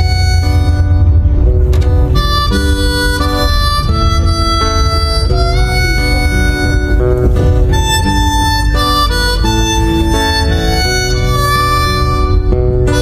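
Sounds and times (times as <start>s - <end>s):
heavy bass: 0.0s - 13.0s
melody of held notes: 0.0s - 13.0s.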